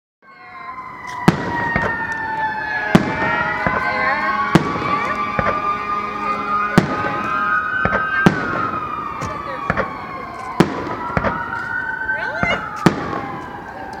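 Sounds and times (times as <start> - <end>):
fireworks bangs: 0.8 - 13.9.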